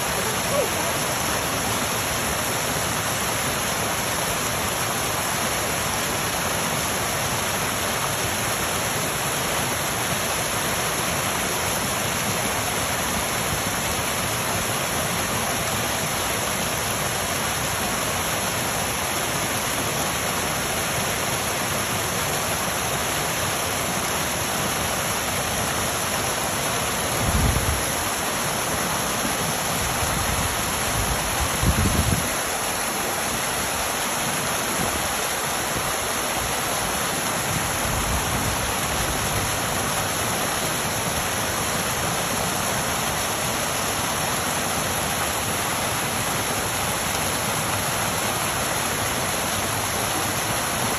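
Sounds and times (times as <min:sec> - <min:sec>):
water splashing down small waterfall: 0:00.0 - 0:50.9.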